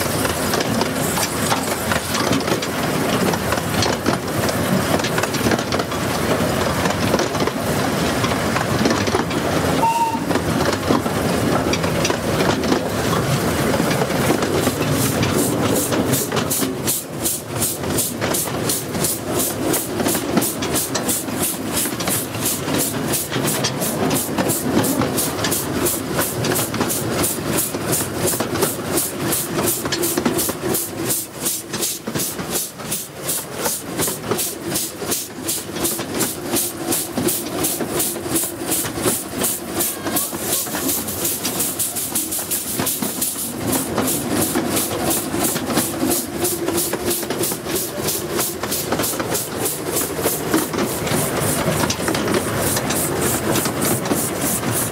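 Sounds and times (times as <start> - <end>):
steam hissing: 0.0 - 6.9, 12.9 - 54.9
steam locomotive beat: 0.0 - 54.9
wheels rumbling on rail: 0.0 - 54.9.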